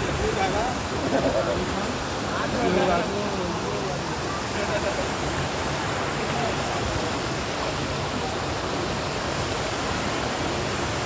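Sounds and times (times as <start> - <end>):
waterfall rushing over rock: 0.0 - 11.0.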